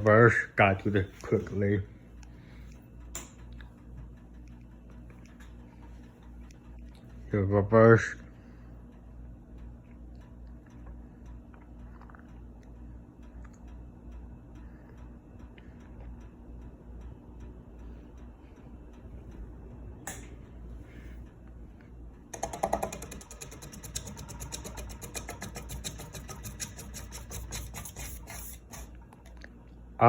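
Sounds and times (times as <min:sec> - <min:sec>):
faint regular ticking: 0:00.0 - 0:27.0
ceiling fan motor hum: 0:00.0 - 0:30.0.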